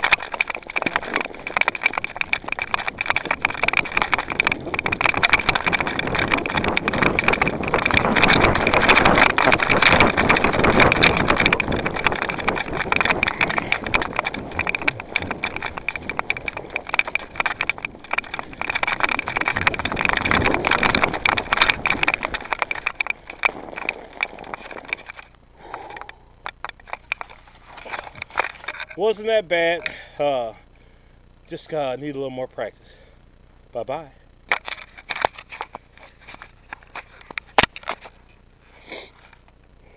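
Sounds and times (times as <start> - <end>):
mountain bike rattling on snow: 0.0 - 30.5, 34.5 - 39.5.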